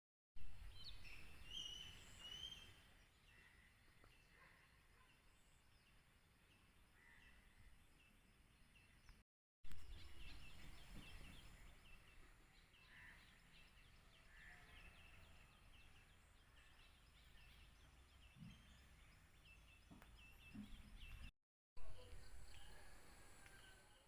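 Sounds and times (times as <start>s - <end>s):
birds chirping: 0.6s - 21.3s.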